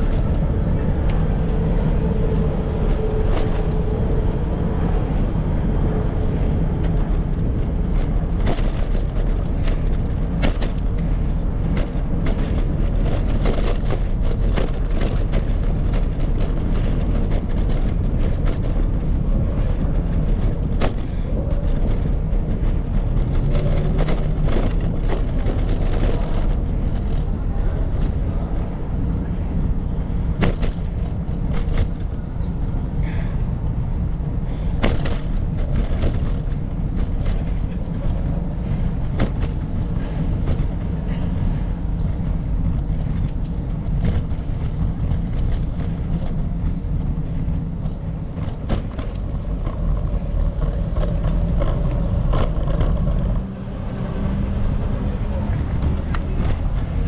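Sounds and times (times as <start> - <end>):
sharp clicks and rattles: 0.0 - 29.1, 30.0 - 32.9, 34.6 - 57.0
bicycle road rumble: 0.0 - 57.0
wind buffeting microphone: 0.0 - 57.0.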